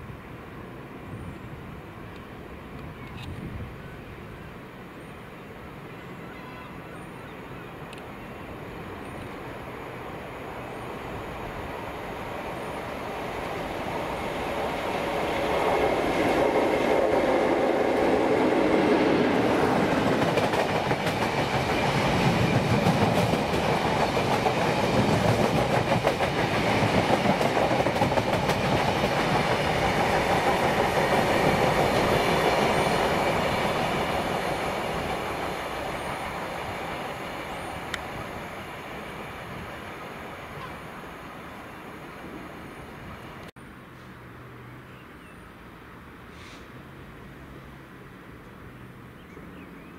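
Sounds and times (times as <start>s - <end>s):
train passing: 0.0s - 44.8s.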